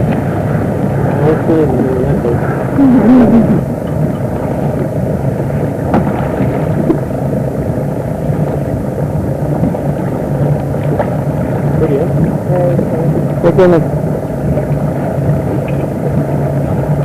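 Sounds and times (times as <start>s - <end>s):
low engine drone: 0.0s - 17.0s
rushing wind or water: 0.0s - 17.0s.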